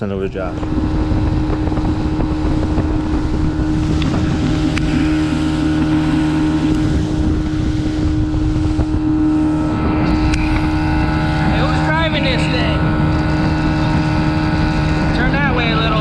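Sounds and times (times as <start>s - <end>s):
outboard motor running: 0.0s - 16.0s
water rushing along hull: 0.0s - 16.0s
wind buffeting microphone: 0.0s - 16.0s.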